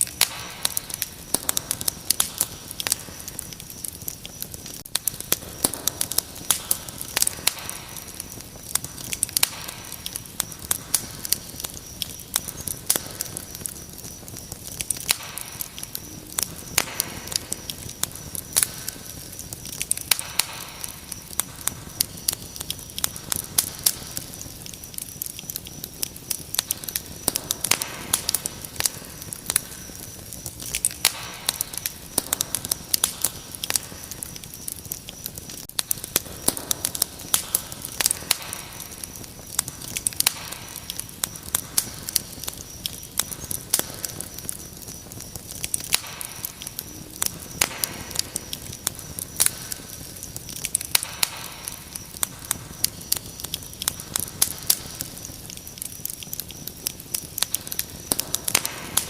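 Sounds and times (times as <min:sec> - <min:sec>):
wood fire crackling and popping: 0:00.0 - 0:59.0
crickets trilling: 0:00.1 - 0:59.0.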